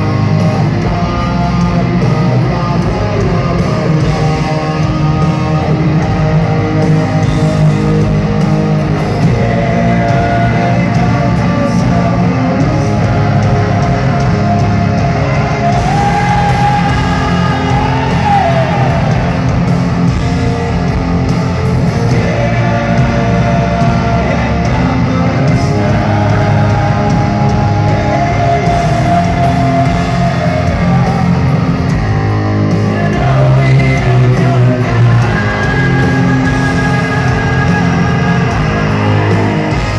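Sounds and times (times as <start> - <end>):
person singing: 0.0 - 20.9, 21.6 - 39.9
drums: 0.0 - 39.9
electric guitars: 0.0 - 39.9.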